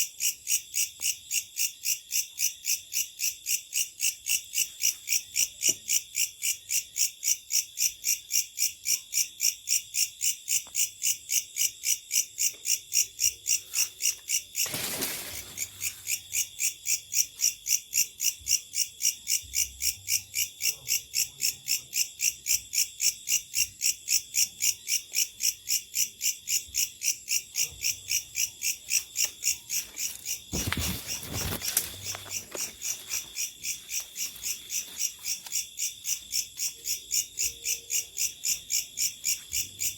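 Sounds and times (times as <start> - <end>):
insect chorus chirping: 0.0 - 39.9.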